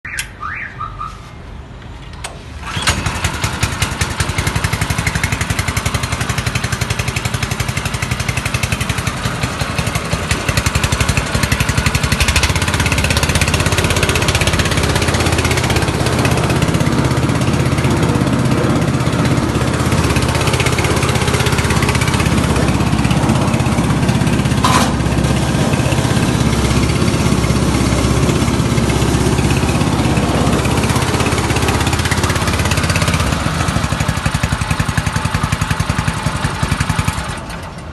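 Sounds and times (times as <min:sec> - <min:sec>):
petrol engine starting and running: 0:00.1 - 0:37.9.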